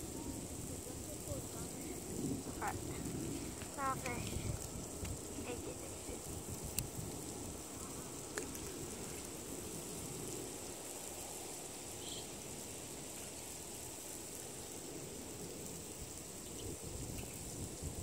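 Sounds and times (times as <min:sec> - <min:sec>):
high-pitched insect drone: 0:00.0 - 0:18.0
wind rumble on microphone: 0:00.0 - 0:18.0.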